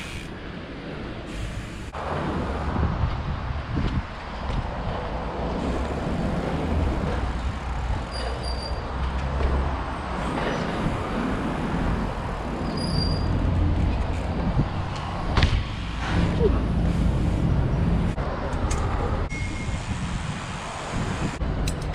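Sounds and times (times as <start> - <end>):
street traffic rumble: 0.0 - 21.9
wind on microphone: 2.2 - 8.1, 10.0 - 21.9.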